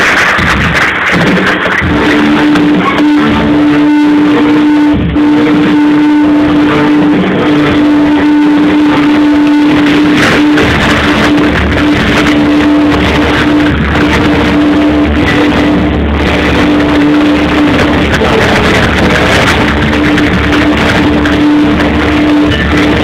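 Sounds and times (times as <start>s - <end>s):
deep bass: 0.0s - 23.0s
held steady note: 0.3s - 23.0s.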